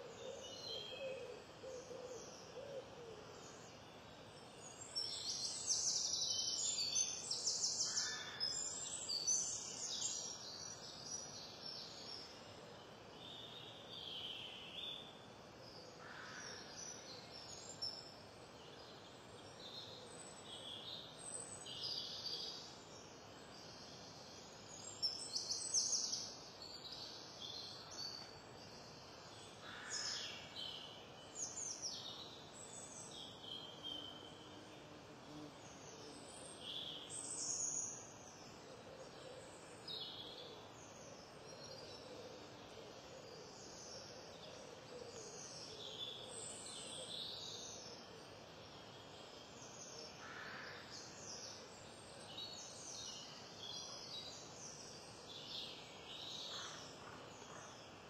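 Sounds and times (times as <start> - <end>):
faint background hiss: 0.0 - 58.0
songbirds singing: 0.0 - 58.0.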